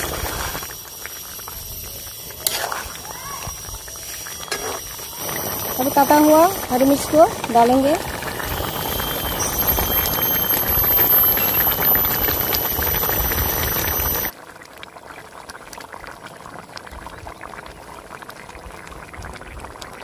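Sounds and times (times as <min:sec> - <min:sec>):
curry bubbling in a pan: 0:00.0 - 0:20.0.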